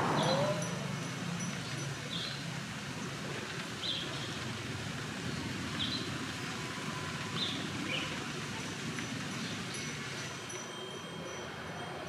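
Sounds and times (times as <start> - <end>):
vehicle moving off: 0.0 - 10.0
street background noise: 0.0 - 12.0.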